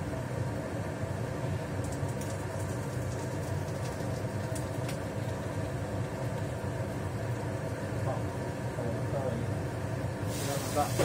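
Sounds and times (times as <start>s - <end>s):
range hood fan droning: 0.0s - 11.0s.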